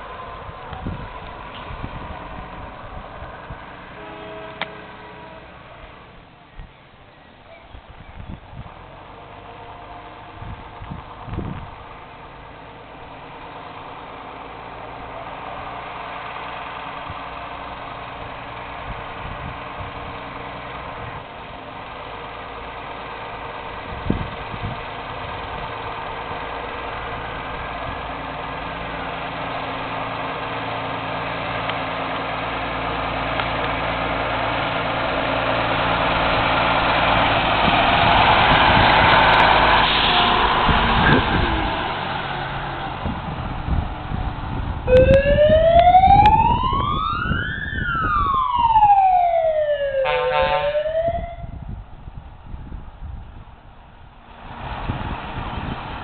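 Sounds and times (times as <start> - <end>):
fire engine diesel engine passing: 0.0 - 56.0.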